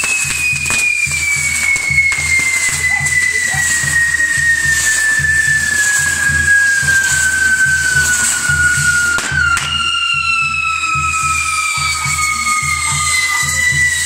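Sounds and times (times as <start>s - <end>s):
firework crack: 0.0s - 14.0s
firework whistle falling in pitch: 0.0s - 14.0s.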